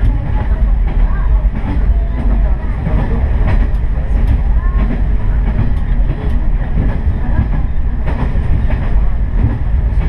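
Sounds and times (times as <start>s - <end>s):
railcar rumbling: 0.0s - 10.0s.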